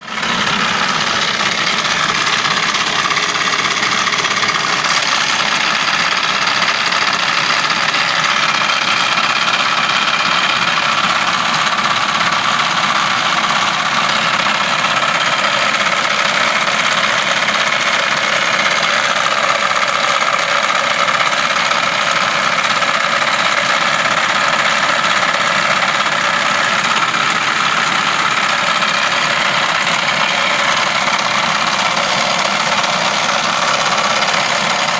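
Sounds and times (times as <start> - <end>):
van engine idling: 0.0 - 34.9.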